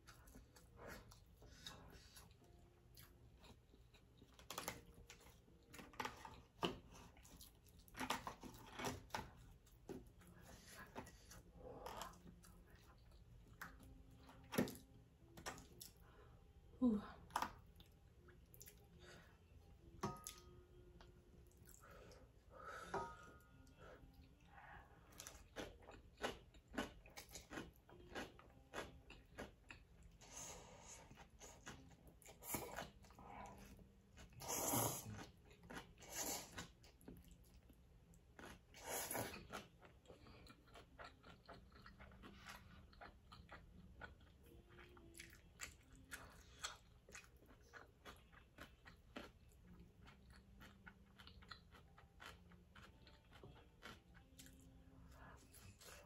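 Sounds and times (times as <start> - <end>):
person chewing noodles: 0.0 - 16.2, 17.4 - 56.0.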